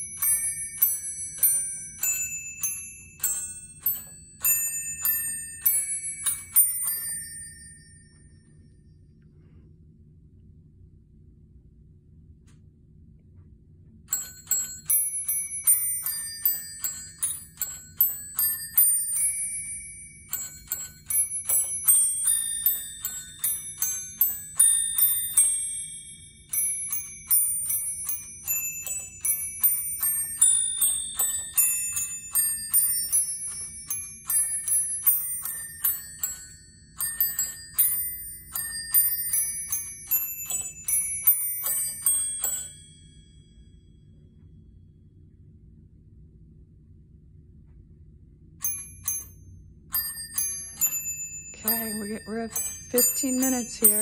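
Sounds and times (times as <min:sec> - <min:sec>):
small bells chiming a melody: 0:00.0 - 0:09.0, 0:14.1 - 0:44.3, 0:48.6 - 0:54.0.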